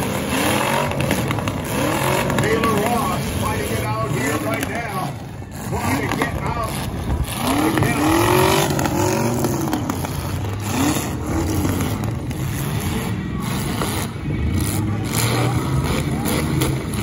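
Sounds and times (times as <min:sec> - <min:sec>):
car engines revving: 0:00.0 - 0:17.0
rumble of engines running: 0:00.0 - 0:17.0.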